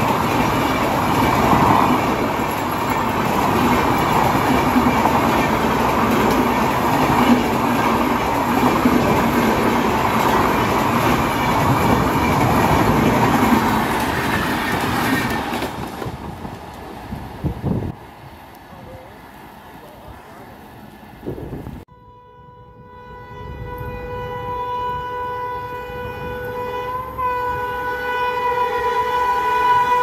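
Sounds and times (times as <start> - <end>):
train passing at high speed: 0.0 - 30.0.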